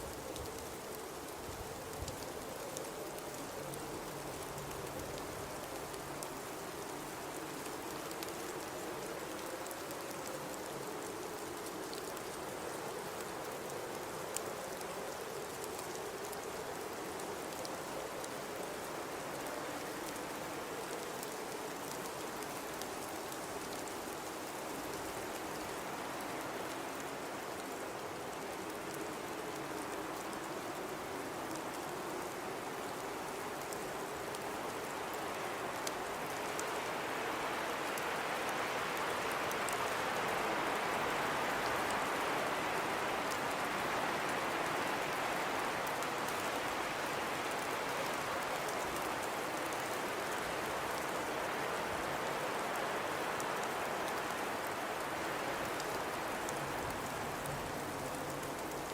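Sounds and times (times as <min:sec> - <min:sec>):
faint scattered ticks: 0:00.0 - 0:58.9.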